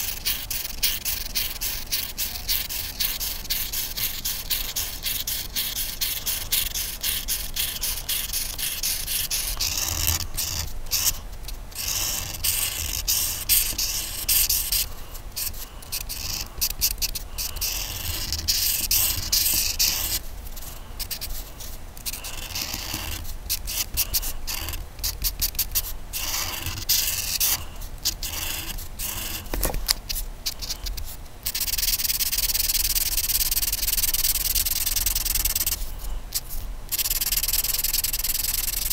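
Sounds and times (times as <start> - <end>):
coloring tool scratching paper: 0.0 - 38.9.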